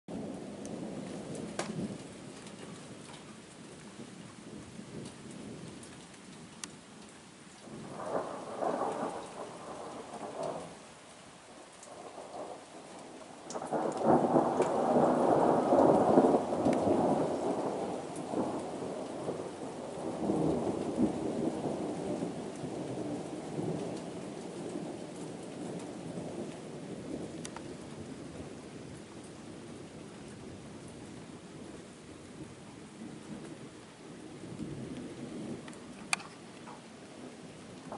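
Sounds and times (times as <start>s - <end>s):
thunder rumbling: 0.1s - 5.7s, 7.6s - 10.9s, 11.5s - 37.9s
rain hiss: 0.1s - 37.9s.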